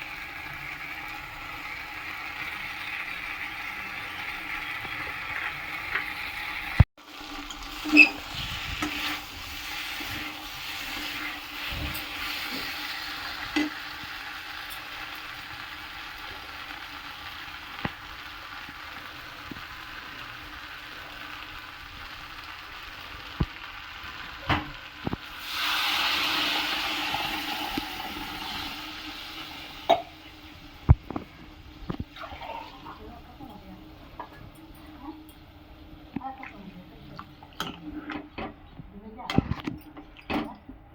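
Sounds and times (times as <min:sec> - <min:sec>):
curry sizzling in a pan: 0:00.0 - 0:37.8.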